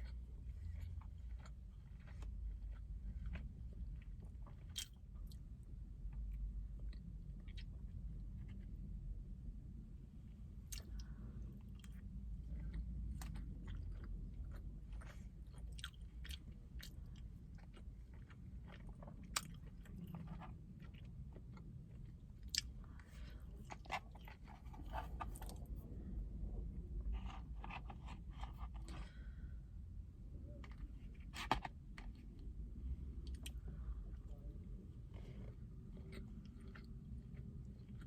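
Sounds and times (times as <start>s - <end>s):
person chewing food: 0.0s - 9.0s, 10.5s - 25.9s, 26.9s - 29.6s, 30.5s - 38.0s
steady low rumble: 0.0s - 38.0s.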